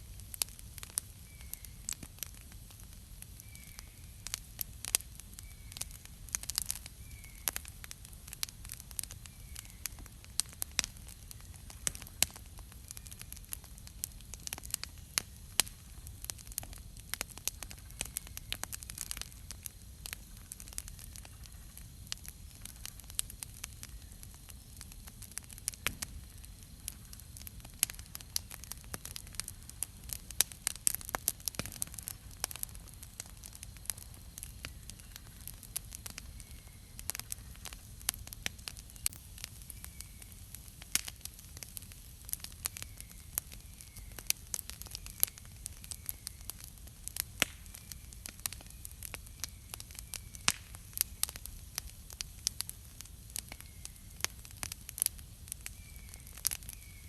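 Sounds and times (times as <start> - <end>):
campfire crackling and popping: 0.0 - 57.0
low steady fire rumble: 0.0 - 57.0.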